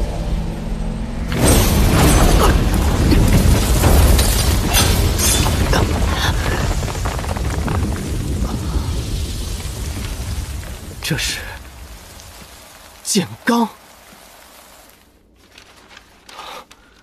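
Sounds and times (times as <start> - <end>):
debris cracks and crashes: 1.2 - 17.0.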